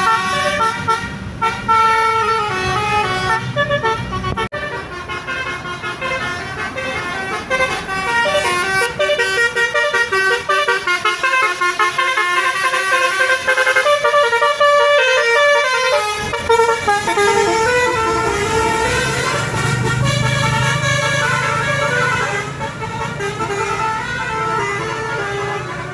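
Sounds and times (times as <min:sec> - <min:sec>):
air horn trumpets playing tune: 0:00.0 - 0:25.9.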